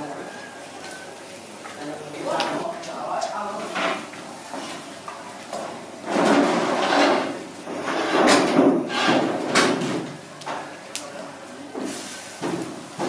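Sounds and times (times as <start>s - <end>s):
wood fire crackling pops: 2.4s - 13.0s.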